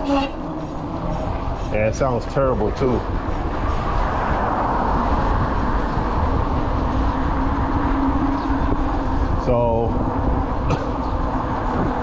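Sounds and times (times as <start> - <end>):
wind and tyre noise: 0.0 - 12.0.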